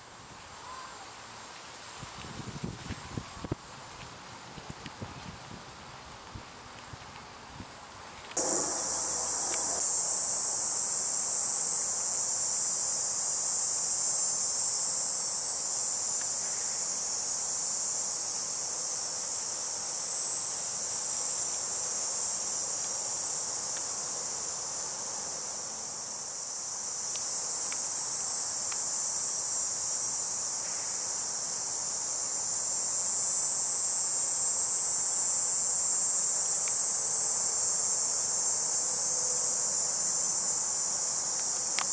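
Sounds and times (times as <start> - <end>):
insect chorus buzzing: 8.2 - 41.9.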